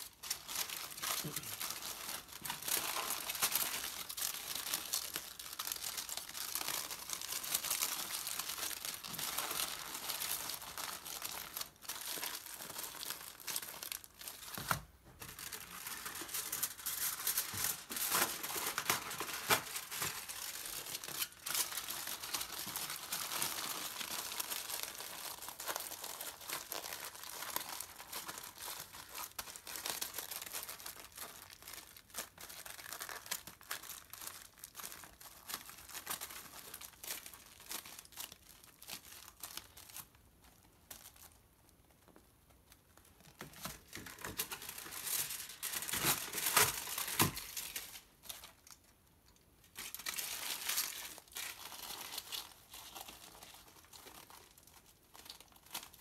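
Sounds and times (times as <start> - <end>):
aluminium foil crinkling: 0.0 - 56.0.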